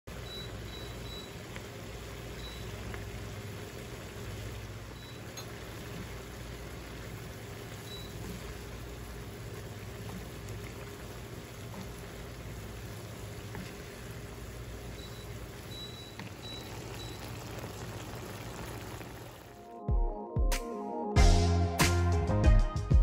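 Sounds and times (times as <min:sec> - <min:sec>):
sauce bubbling in a pan: 0:00.1 - 0:19.6.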